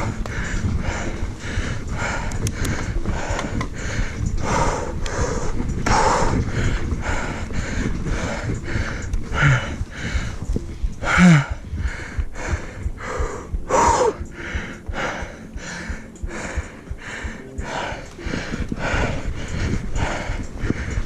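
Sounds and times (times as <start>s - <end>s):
bike knocking: 0.0s - 21.0s
bike tyres rumbling on trail: 0.0s - 21.0s
person panting: 0.0s - 21.0s.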